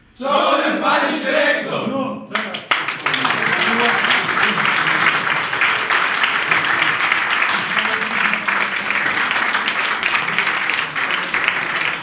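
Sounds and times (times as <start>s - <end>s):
audience applauding: 2.3s - 12.0s.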